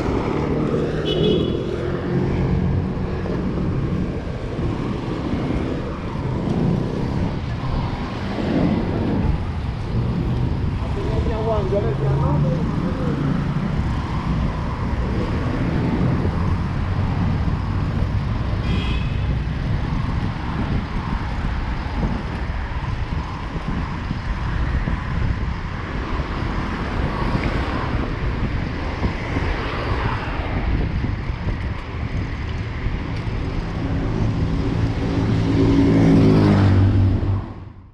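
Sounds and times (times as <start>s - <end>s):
traffic rumble: 0.0s - 37.9s.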